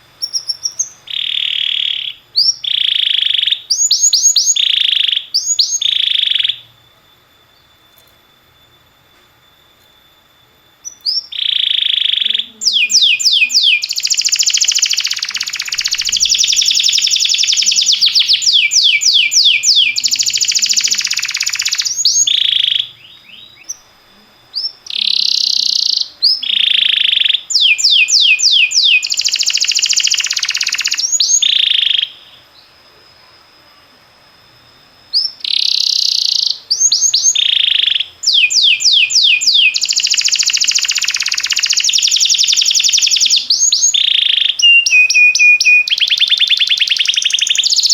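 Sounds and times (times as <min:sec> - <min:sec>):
canary singing trills: 0:00.0 - 0:06.8, 0:10.8 - 0:47.9.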